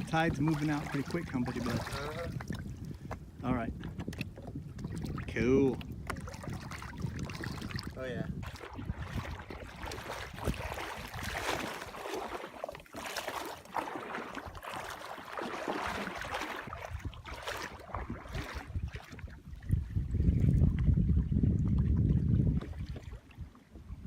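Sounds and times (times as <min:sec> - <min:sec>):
wind buffeting microphone: 0:00.0 - 0:13.5, 0:15.7 - 0:24.0
shallow water sloshing: 0:00.0 - 0:24.0.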